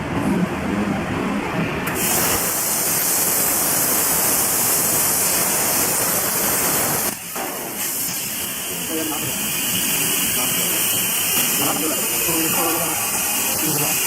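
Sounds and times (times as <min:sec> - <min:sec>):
plasma torch cutting metal: 0:01.8 - 0:14.0.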